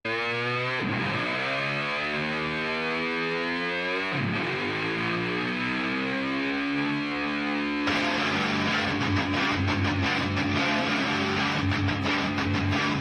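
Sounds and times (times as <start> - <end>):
electric guitar chords: 0.1 - 13.0.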